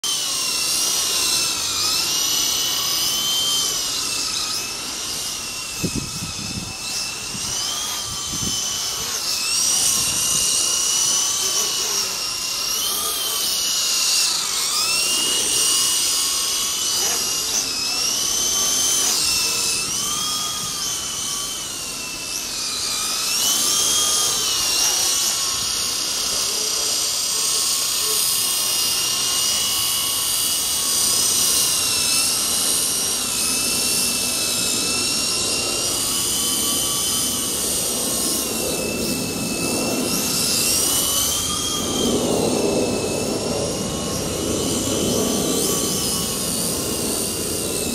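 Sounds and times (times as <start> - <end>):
toy helicopter rotor whine: 0.0 - 47.9.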